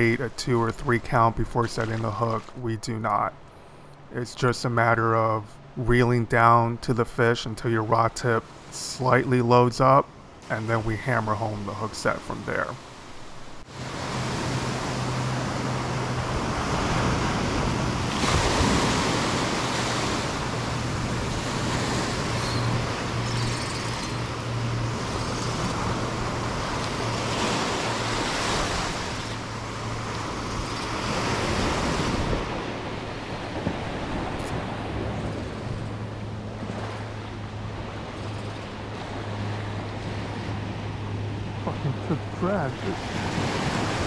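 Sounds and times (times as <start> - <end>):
waves breaking on a beach: 0.0 - 44.0.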